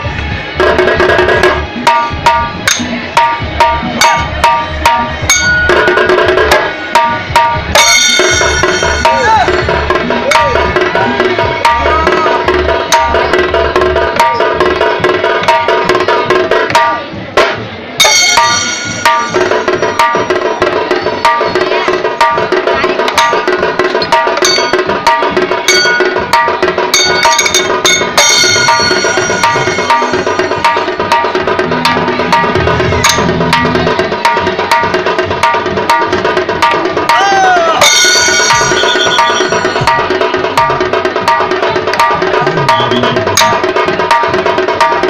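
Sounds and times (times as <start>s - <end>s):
held pitched melody line: 0.0s - 15.2s, 18.0s - 44.4s
barrel drums beaten fast: 0.0s - 45.0s.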